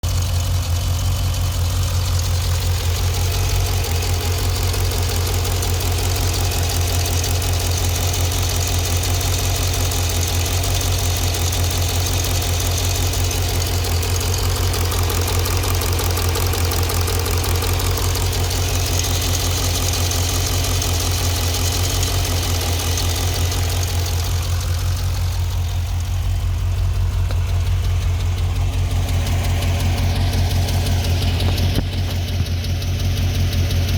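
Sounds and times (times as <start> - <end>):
car engine idling: 0.0 - 33.9
rapid regular engine ticking: 0.0 - 33.9.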